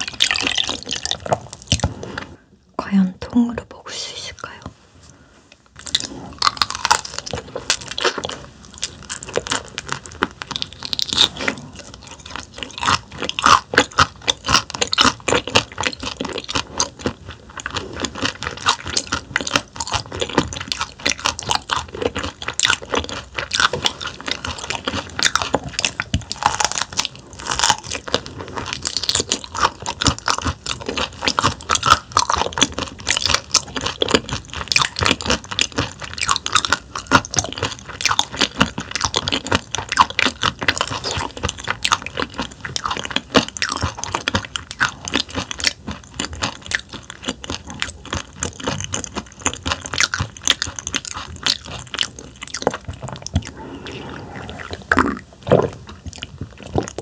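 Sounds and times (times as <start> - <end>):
chewing crunchy raw fish: 0.0 - 2.4, 5.7 - 57.0.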